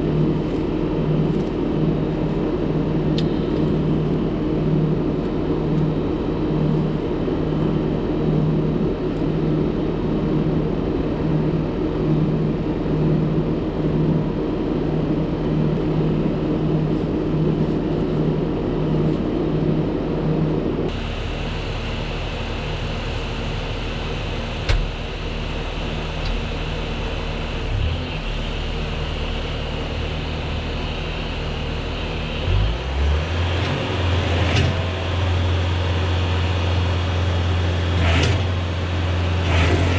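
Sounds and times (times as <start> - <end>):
loader engine running: 0.0 - 39.9
steady hum: 0.0 - 39.9.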